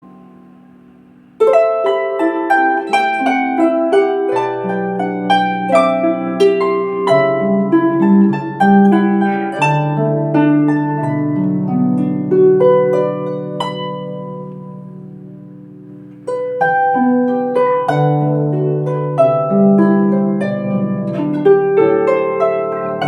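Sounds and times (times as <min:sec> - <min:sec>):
harp melody: 0:00.0 - 0:23.0.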